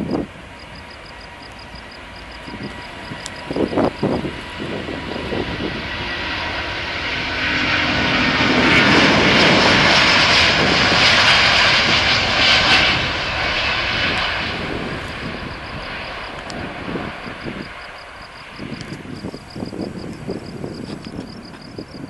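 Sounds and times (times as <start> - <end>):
jet airliner taking off: 0.0 - 22.0.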